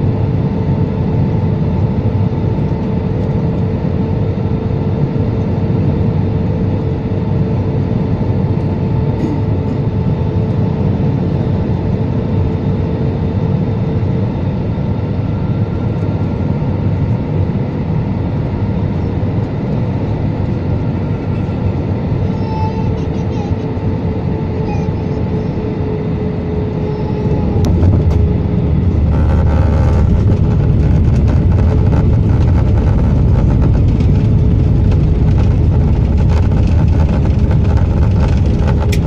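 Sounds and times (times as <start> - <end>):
engine and airflow rumble: 0.0 - 39.0
steady humming tone: 0.0 - 39.0.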